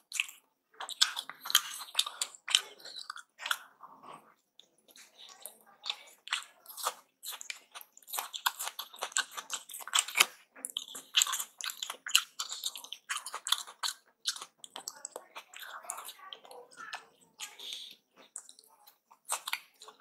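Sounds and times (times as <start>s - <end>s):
wet chewing and mouth clicks: 0.0s - 20.0s.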